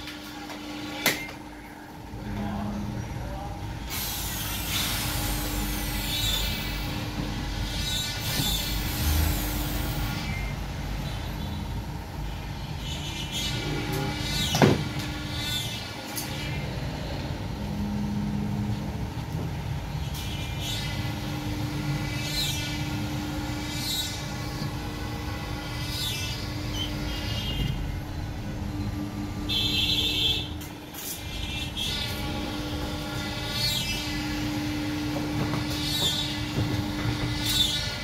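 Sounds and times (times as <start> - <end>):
machine hum: 0.0 - 38.0
workshop machinery running: 0.0 - 38.0.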